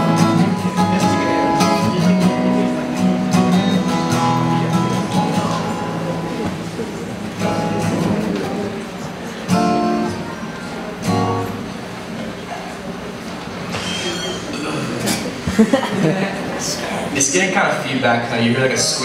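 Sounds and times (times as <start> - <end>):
acoustic guitar strumming chords: 0.0 - 15.4.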